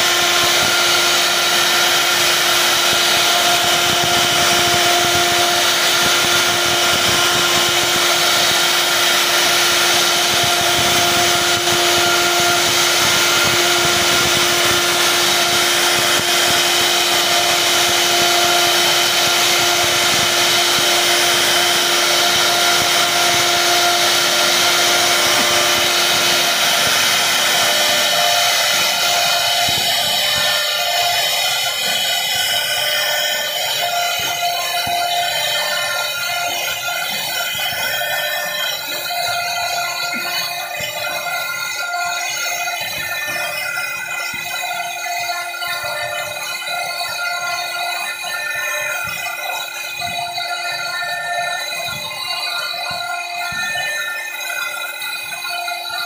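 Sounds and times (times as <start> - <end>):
router spindle cutting wood: 0.0 - 56.0.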